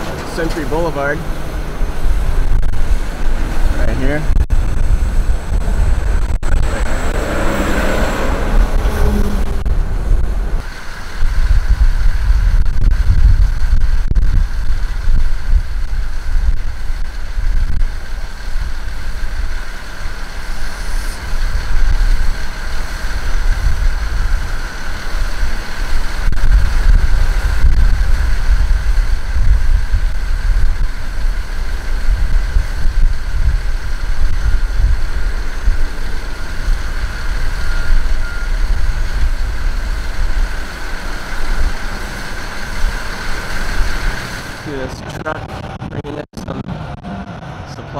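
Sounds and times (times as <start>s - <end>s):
road and wind noise rumble: 0.0s - 47.9s
steady high whine: 0.0s - 47.9s.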